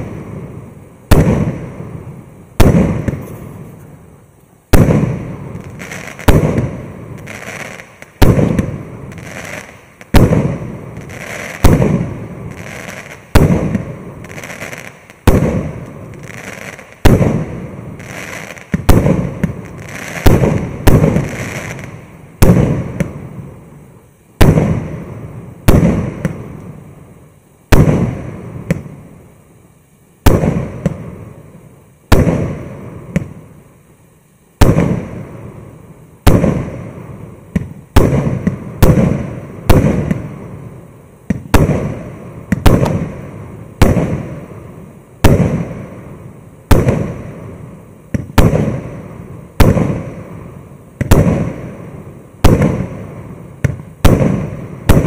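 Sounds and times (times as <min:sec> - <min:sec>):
firework bangs: 0:00.0 - 0:04.0, 0:04.7 - 0:23.6, 0:24.4 - 0:26.8, 0:27.7 - 0:29.1, 0:30.2 - 0:31.4, 0:32.1 - 0:33.6, 0:34.6 - 0:35.6, 0:36.2 - 0:55.0.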